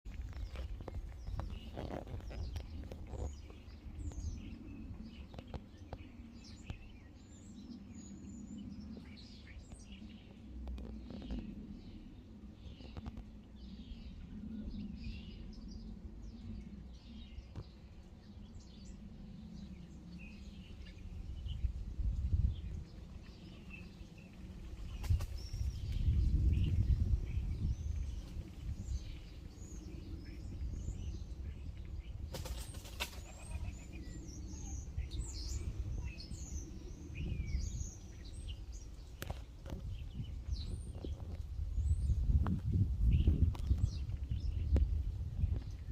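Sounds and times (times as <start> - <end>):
steady low rumble: 0.1 - 32.3, 33.6 - 45.9
small birds chirping: 0.1 - 45.9.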